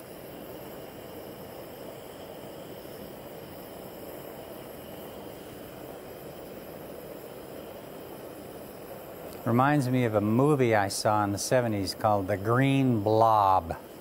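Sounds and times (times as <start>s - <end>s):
gas burner hissing: 0.0s - 14.0s.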